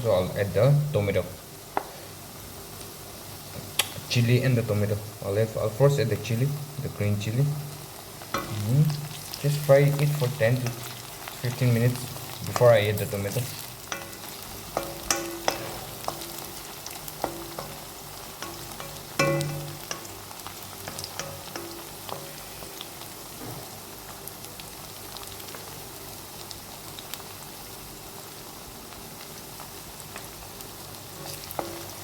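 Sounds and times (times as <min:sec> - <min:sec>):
onions sizzling in oil: 0:00.0 - 0:32.0.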